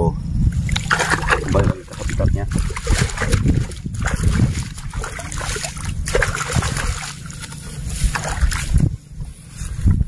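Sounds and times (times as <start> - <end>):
fish splashing into water: 0.6 - 8.8
hands splashing in water: 0.6 - 8.8.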